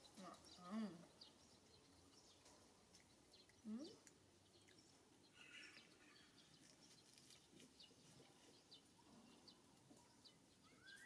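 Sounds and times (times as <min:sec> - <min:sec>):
faint high chirps: 0:00.0 - 0:11.0.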